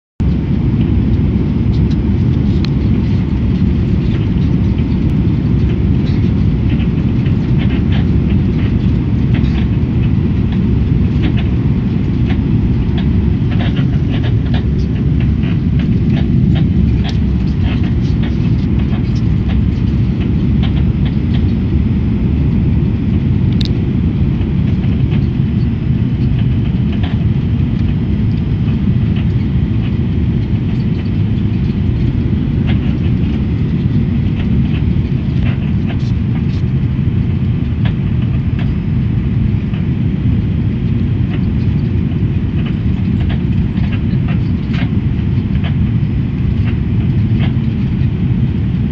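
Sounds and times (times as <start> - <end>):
engine and airflow rumble: 0.2 - 48.9.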